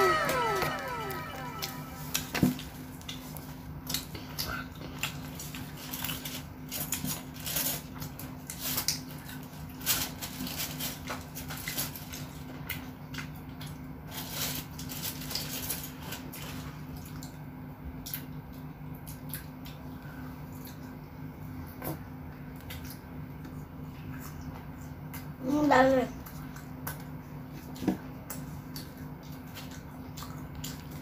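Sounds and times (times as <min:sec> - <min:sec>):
child chewing food: 0:00.0 - 0:31.0
low steady hum: 0:00.0 - 0:31.0.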